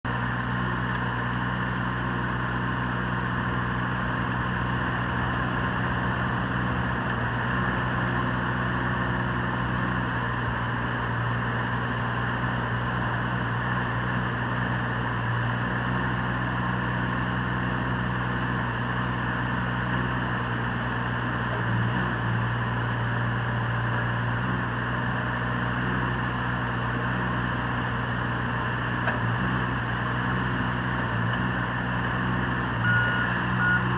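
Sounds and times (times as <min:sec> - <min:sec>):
diesel engine running steadily: 0:00.0 - 0:33.9.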